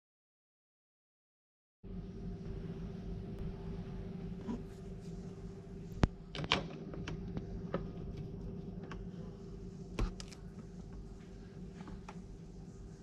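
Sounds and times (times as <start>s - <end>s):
faint steady hum: 1.9s - 13.0s.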